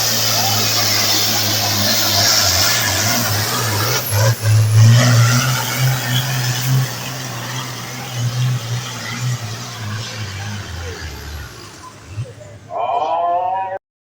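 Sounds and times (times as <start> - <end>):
tractor engine under load: 0.0 - 12.8.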